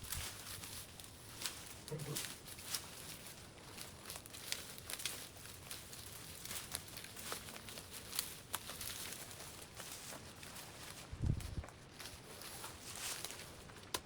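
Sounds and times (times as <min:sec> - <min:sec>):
dry vegetation crackling and rustling: 0:00.0 - 0:14.0.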